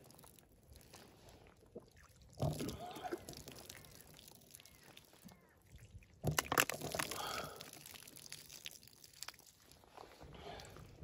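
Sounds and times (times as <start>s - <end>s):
water sloshing and dripping: 0.0s - 11.0s.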